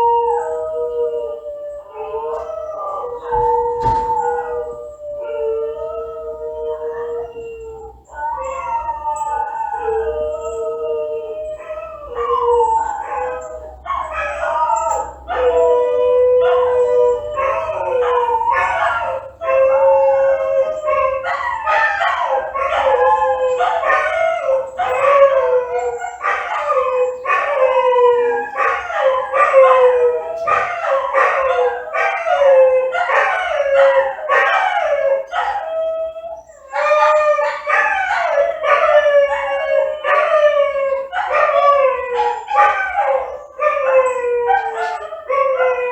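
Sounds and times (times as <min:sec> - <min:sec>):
dogs crying with falling pitch: 0:00.0 - 0:45.9
low dog howl: 0:00.0 - 0:45.9.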